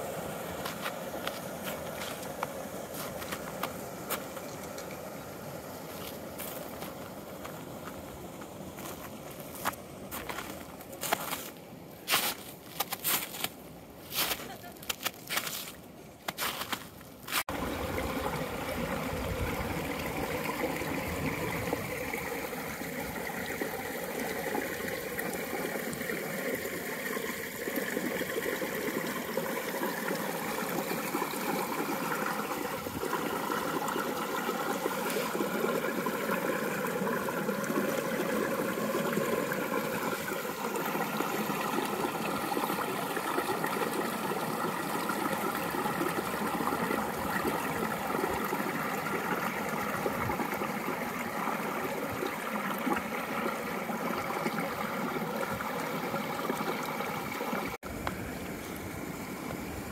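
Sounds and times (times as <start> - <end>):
running water rushing: 0.0 - 15.8, 16.4 - 59.9.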